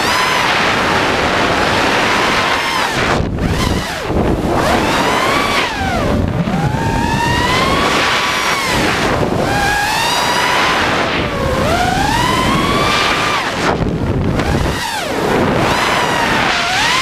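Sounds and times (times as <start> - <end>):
drone motors whining: 0.0 - 17.0
wind on microphone: 0.0 - 17.0.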